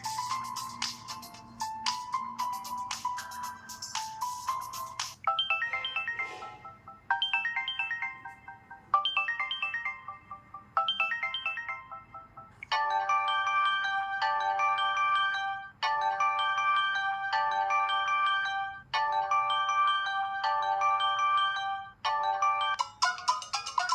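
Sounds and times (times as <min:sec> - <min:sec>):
bell-like electronic ringtone: 0:00.0 - 0:23.9
chiming ringtone: 0:00.0 - 0:23.9.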